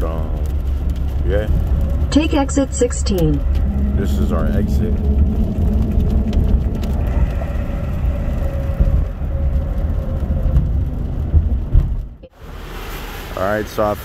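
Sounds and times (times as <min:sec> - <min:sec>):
truck cab road rumble: 0:00.0 - 0:13.8.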